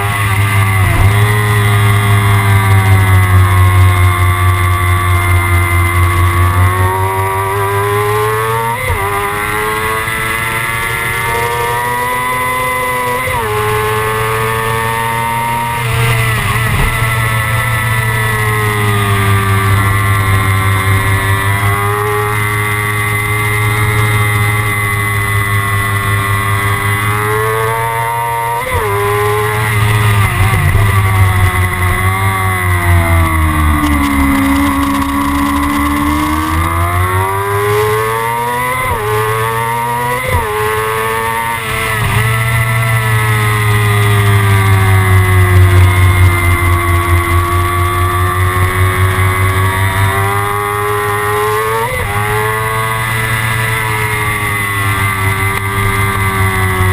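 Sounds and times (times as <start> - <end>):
motorcycle engine running hard: 0.0 - 56.9.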